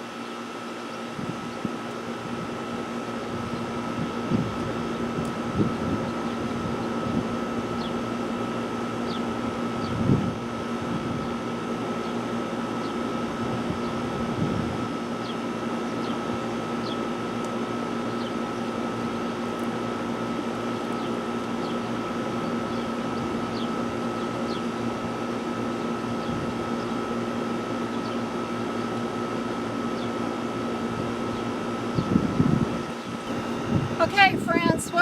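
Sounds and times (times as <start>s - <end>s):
motor humming: 0.0s - 35.0s.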